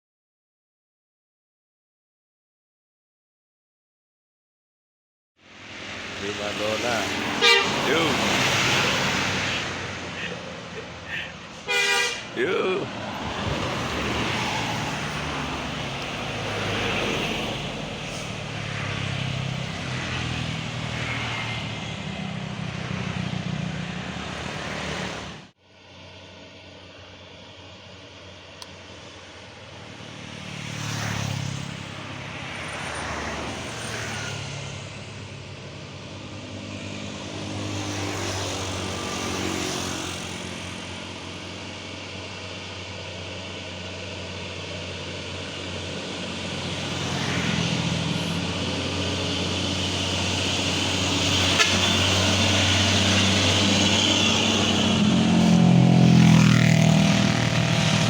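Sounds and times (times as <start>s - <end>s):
road traffic passing: 5.4s - 58.0s
heavy vehicle passing: 5.5s - 26.3s, 28.9s - 58.0s.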